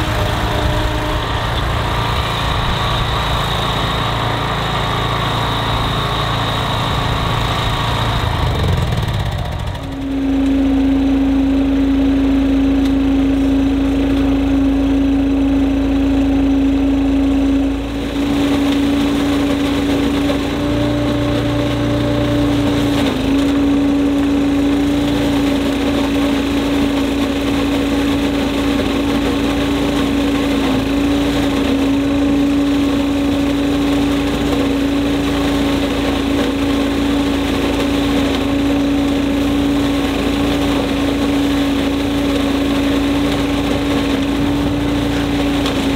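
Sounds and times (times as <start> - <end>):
leaf vacuum humming: 0.0 - 45.9.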